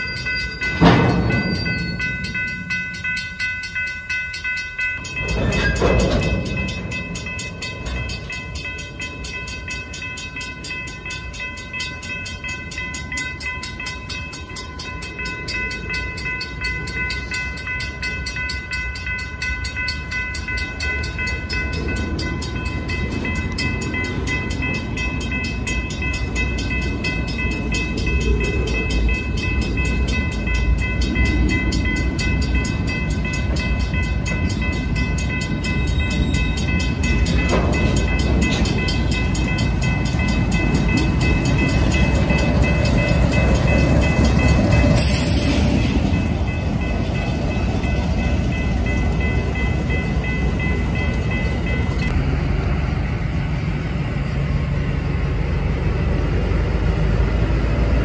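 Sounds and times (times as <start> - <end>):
high ringing tones: 0.0 - 52.2
diesel locomotives: 0.0 - 58.0
freight train wheels rumbling: 0.0 - 58.0.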